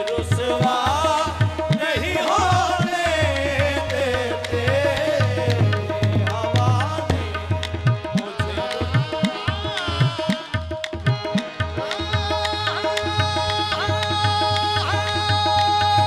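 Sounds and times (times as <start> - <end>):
hand drum rhythm: 0.0 - 16.0
harmoniums holding notes: 0.0 - 16.0
man singing: 0.0 - 16.0.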